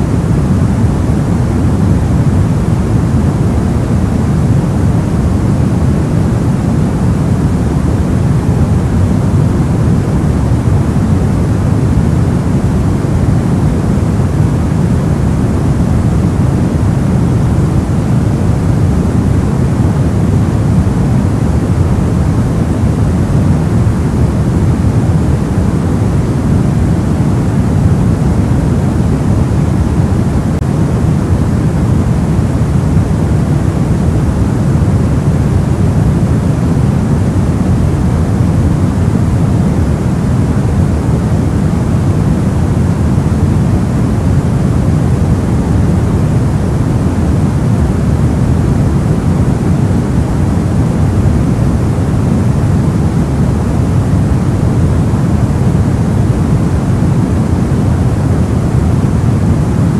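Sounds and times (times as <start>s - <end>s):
deep steady noise: 0.0s - 59.9s.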